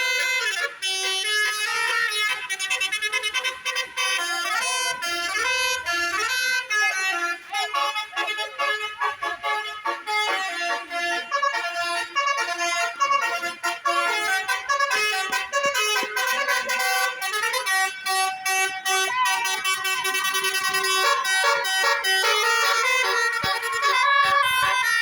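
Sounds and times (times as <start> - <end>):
bus multi-tone horn melody: 0.0 - 25.0.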